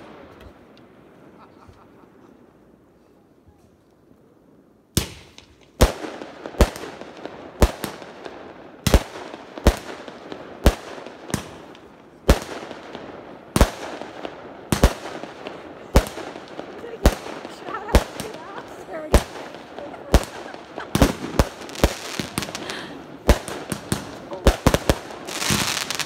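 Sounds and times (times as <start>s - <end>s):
fireworks bangs: 5.0s - 26.0s
fireworks hissing crackle: 5.1s - 26.0s.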